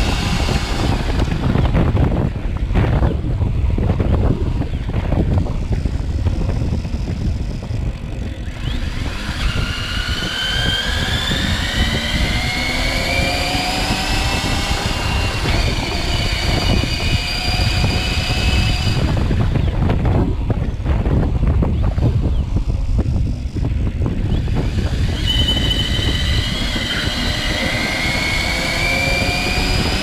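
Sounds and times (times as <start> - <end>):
electric bike motor whining: 0.0 - 30.0
wind rumble on microphone: 0.0 - 30.0.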